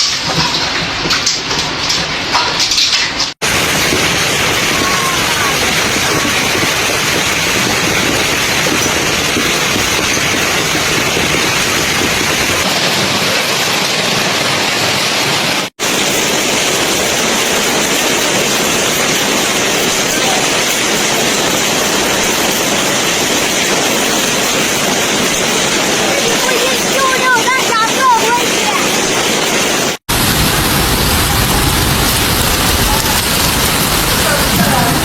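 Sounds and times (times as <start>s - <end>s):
hail or rain pelting: 0.0s - 35.0s
wind: 0.0s - 35.0s.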